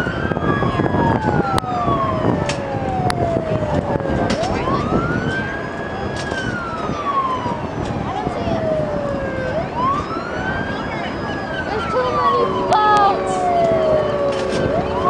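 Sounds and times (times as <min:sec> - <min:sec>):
wailing sirens: 0:00.0 - 0:15.0.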